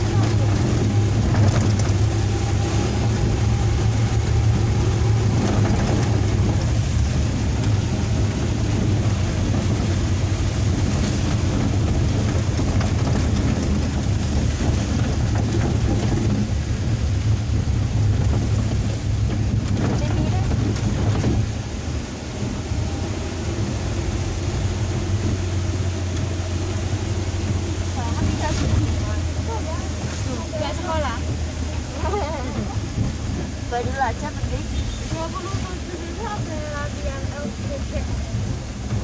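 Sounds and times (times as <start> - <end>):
heavy rain hiss: 0.0 - 39.0
road noise: 0.0 - 39.0
vehicle engine drone: 0.0 - 39.0.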